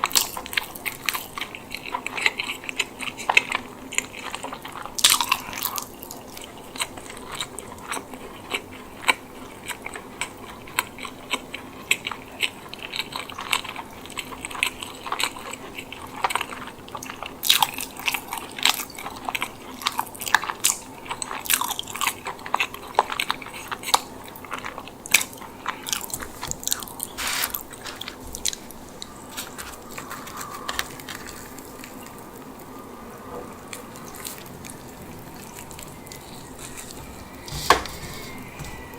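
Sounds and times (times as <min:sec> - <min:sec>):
biting and chewing bread: 0:00.0 - 0:32.4.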